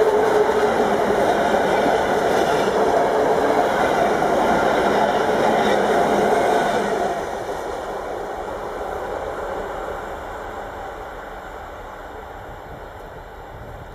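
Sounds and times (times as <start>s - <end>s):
freight train wheels on track: 0.0s - 13.9s.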